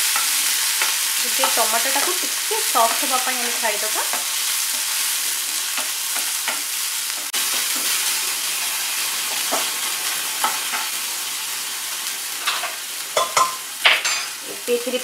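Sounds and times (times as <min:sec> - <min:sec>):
onion and tomato sizzling in oil: 0:00.0 - 0:15.0.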